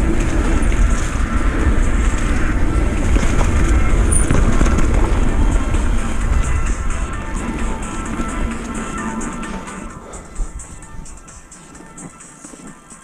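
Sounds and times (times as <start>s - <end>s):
wind buffeting microphone: 0.0s - 12.9s
bike rattling: 0.0s - 13.0s
tyres rumbling on dirt: 0.0s - 13.0s.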